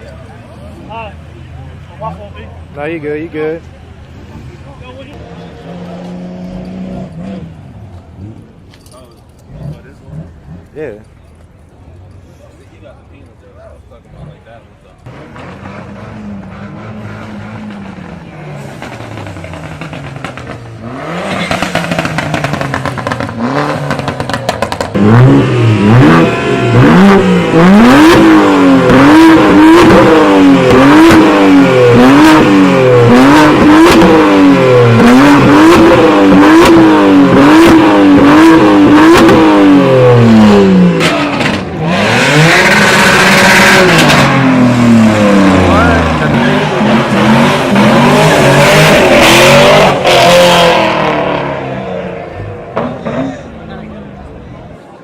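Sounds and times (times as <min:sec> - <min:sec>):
car engine revving: 0:00.3 - 0:08.7, 0:09.4 - 0:11.1, 0:14.0 - 0:54.8.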